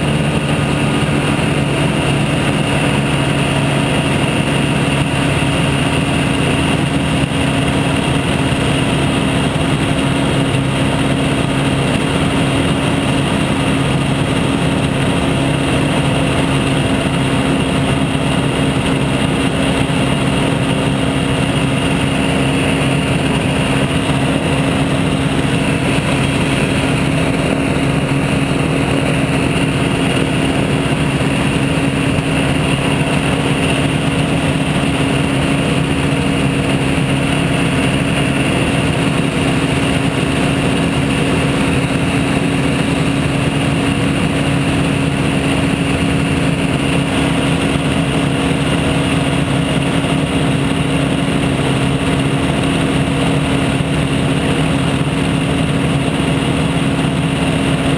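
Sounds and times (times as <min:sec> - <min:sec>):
aircraft engine and propeller droning: 0:00.0 - 0:57.9.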